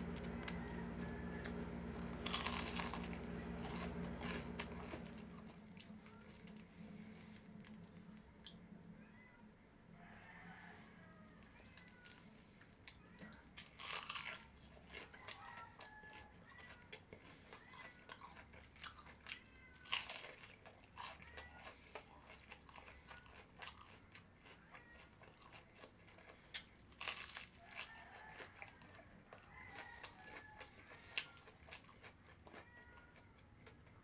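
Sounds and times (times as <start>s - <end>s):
person crunching fried food: 0.0s - 8.6s, 11.4s - 34.0s.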